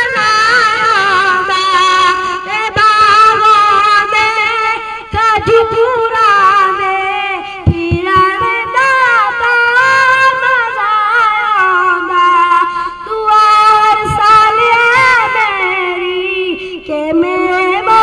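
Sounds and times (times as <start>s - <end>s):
boy singing into microphone: 0.0s - 18.0s.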